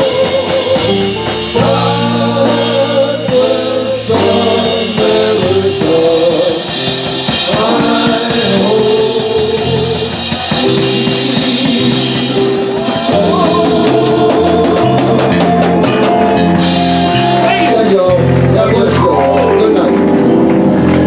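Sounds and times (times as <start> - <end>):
men singing: 0.0 - 19.2
drum kit: 0.0 - 21.0
electric bass: 0.0 - 21.0
keyboard: 0.0 - 21.0.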